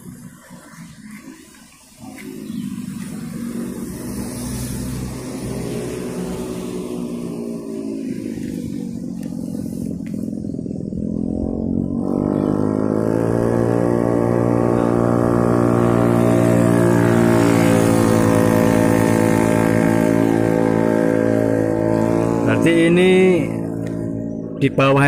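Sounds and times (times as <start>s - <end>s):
vehicle engine running under load: 0.0s - 25.0s.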